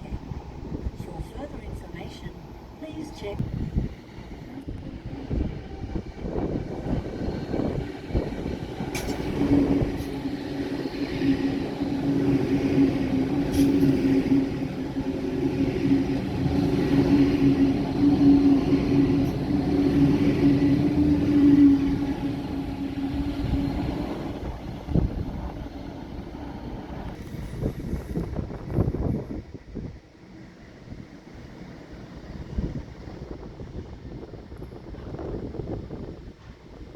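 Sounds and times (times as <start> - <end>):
train rumbling by: 0.0 - 36.9.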